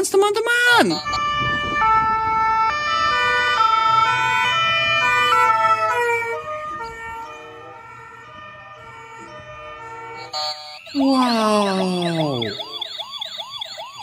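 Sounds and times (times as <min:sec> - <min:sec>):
two-tone ambulance siren: 0:00.5 - 0:14.0.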